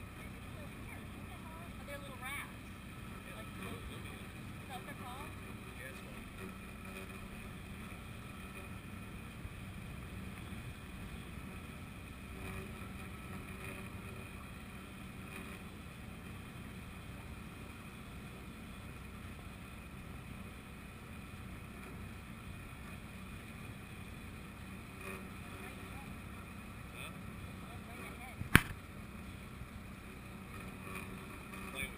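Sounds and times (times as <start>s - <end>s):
low even hum: 0.0s - 31.9s
water noise: 0.0s - 31.9s.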